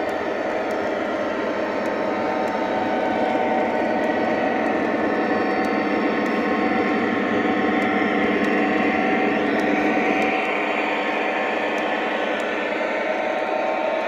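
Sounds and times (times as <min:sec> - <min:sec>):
model train rumbling hum: 0:00.0 - 0:14.0.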